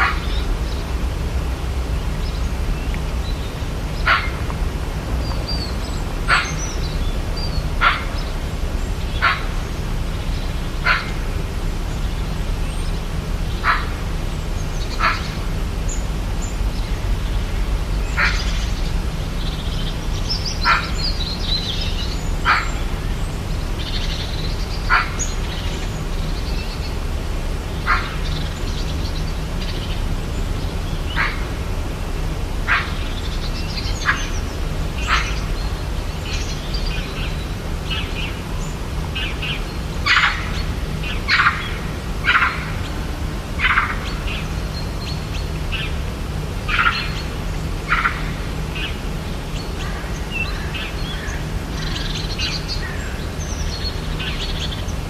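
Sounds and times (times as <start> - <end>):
birds calling and chirping: 0.0 - 55.0
steady low hum: 0.0 - 55.0.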